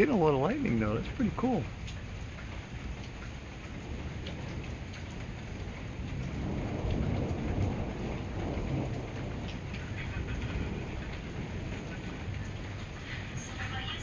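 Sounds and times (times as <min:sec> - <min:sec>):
low roll of thunder: 0:00.0 - 0:14.0
rain falling steadily: 0:00.0 - 0:14.0
water drips ticking: 0:00.0 - 0:14.0.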